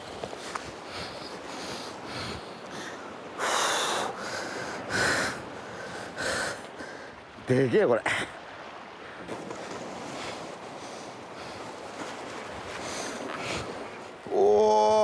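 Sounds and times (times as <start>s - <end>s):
surf: 0.0s - 15.0s
wind: 0.0s - 15.0s.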